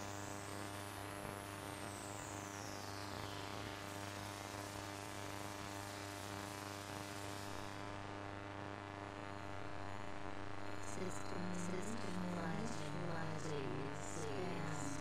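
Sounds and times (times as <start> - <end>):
electrical hum and buzz: 0.0 - 15.0.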